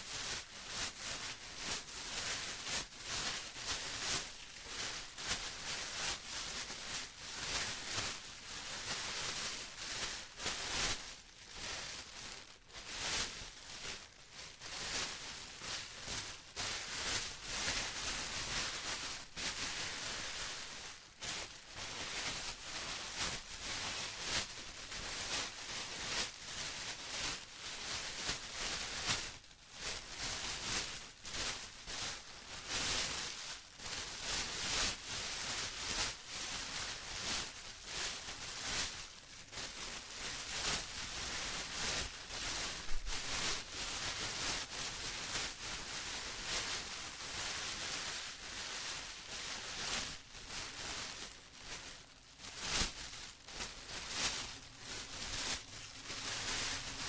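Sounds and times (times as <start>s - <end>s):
plastic crinkling by hand: 0.0s - 57.0s.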